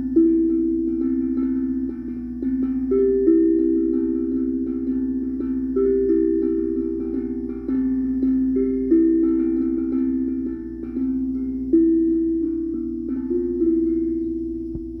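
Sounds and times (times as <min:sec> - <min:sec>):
steel tongue drum notes: 0:00.0 - 0:15.0.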